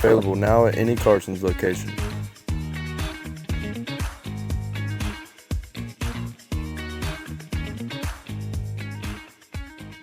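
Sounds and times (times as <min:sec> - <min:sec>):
funky bass and guitar music: 0:00.0 - 0:10.0.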